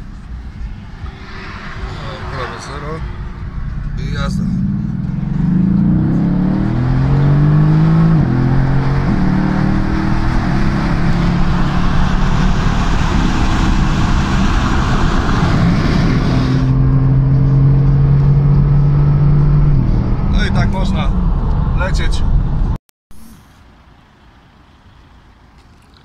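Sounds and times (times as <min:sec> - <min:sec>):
car engine accelerating: 0:00.0 - 0:22.8
wind and tyre noise: 0:00.0 - 0:22.8.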